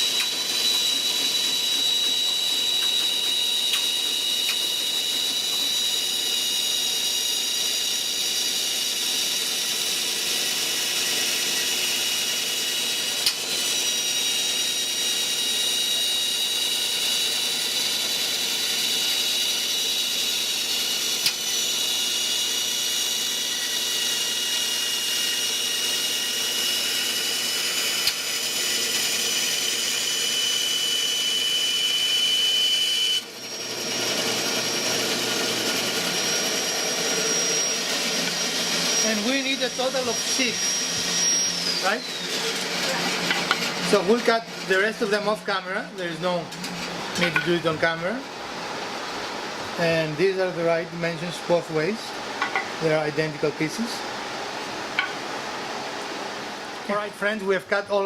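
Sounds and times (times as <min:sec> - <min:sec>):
power saw whining: 0:00.0 - 0:48.2.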